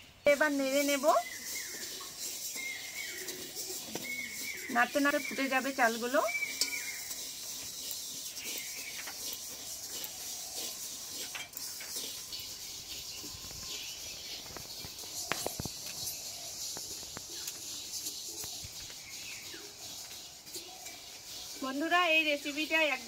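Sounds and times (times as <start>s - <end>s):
rice grains hissing and rattling in wok: 0.0s - 23.0s.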